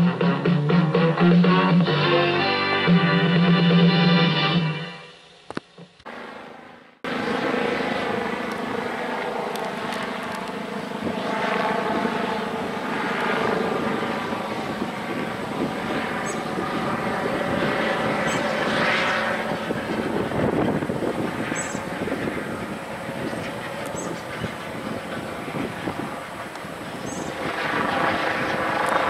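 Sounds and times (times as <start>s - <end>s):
helicopter flying overhead: 3.5s - 29.0s.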